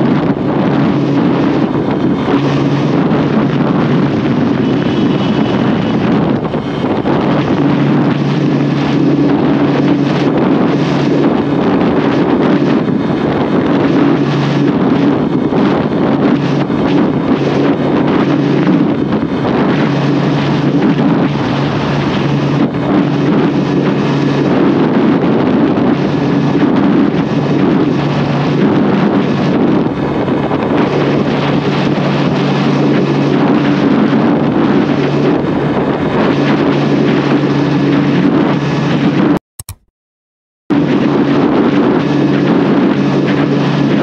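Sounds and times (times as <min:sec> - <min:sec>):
wind blast on microphone: 0:00.0 - 0:39.8, 0:40.7 - 0:44.0.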